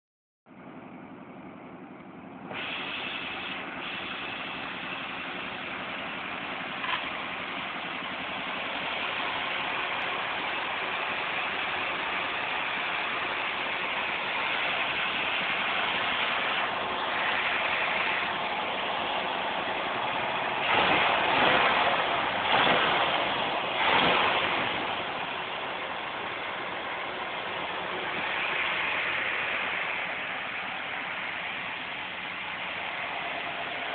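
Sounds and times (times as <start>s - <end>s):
engine idling: 0.5s - 33.9s.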